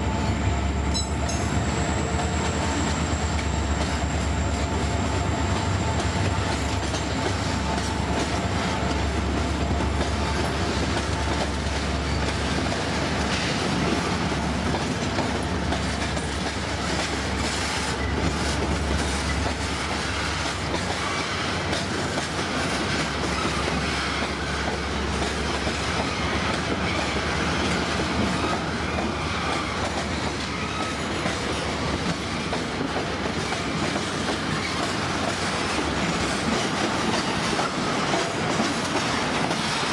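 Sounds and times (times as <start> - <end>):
rhythmic rail clatter: 0.0 - 39.9
train wheels rumbling on rails: 0.0 - 39.9.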